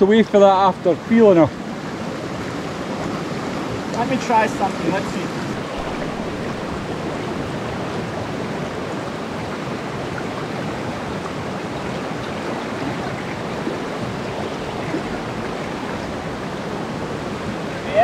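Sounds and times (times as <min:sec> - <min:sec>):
river water rushing over rocks: 0:01.3 - 0:18.0.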